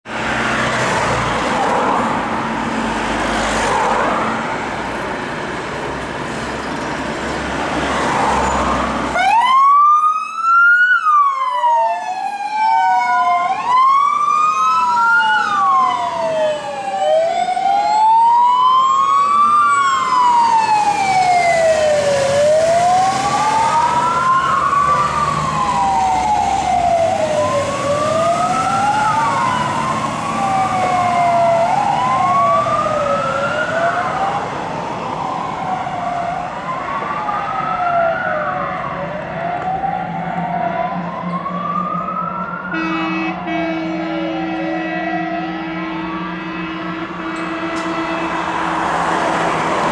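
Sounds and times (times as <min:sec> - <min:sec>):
fire engine diesel engines: 0:00.0 - 0:49.9
electronic sirens wailing: 0:08.0 - 0:49.9.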